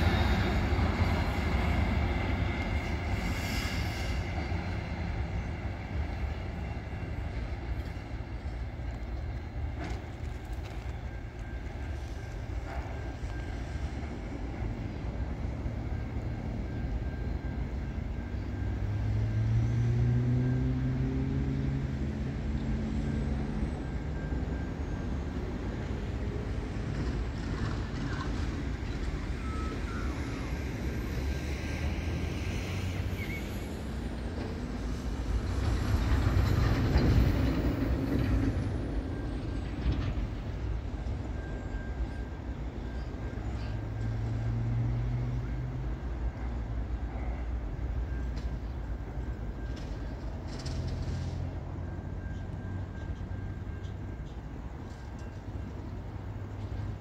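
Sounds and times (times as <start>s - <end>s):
freight train rumbling: 0.0s - 57.0s.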